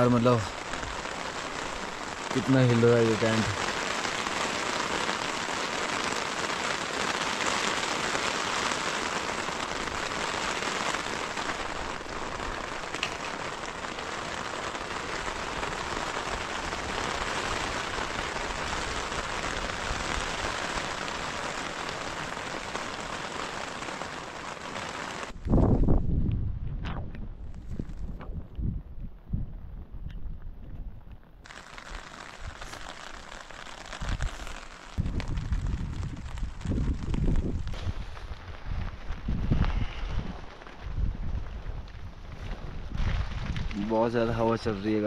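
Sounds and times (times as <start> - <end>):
heavy rain on tent fabric: 0.0 - 26.0, 31.4 - 45.0.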